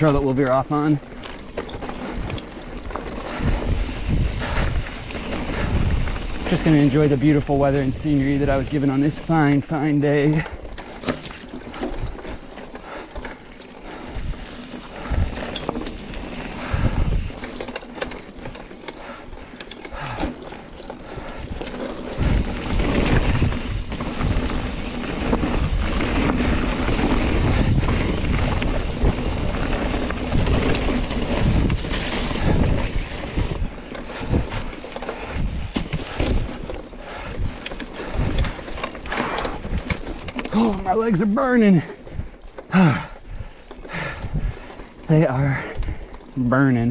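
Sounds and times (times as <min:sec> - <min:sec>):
bike rattling over bumps: 0:00.0 - 0:46.9
wind buffeting microphone: 0:01.7 - 0:13.0, 0:13.8 - 0:46.9.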